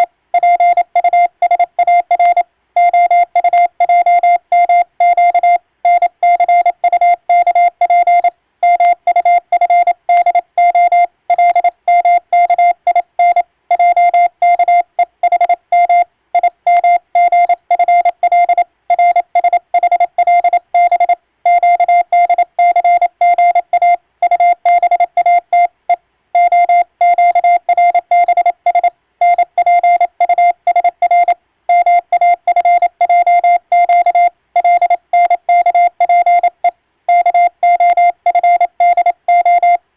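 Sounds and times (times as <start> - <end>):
morse code beeps: 0.0 - 39.8.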